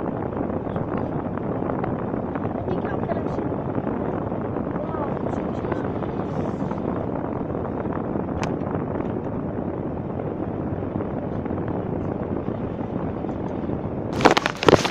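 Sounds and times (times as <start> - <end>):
car engine and tyre rumble: 0.0 - 14.9.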